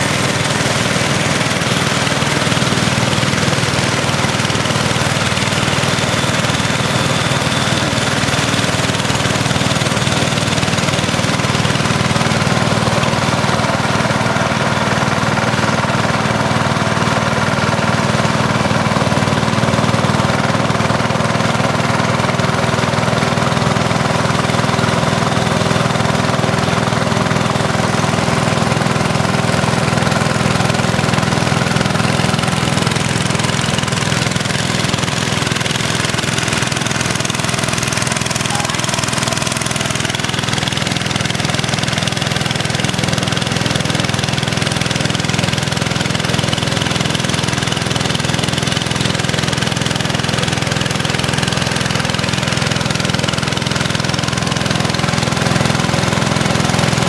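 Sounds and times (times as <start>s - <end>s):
outboard engine buzzing: 0.0s - 57.0s.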